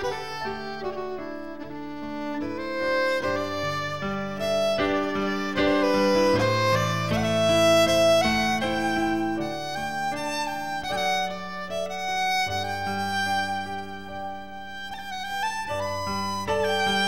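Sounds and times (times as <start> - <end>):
string-like background music: 0.0 - 17.0.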